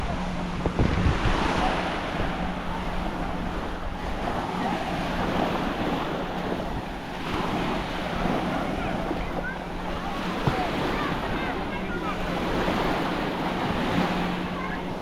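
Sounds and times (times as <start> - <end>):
waves washing onto beach: 0.0 - 15.0
wind buffeting microphone: 0.0 - 15.0.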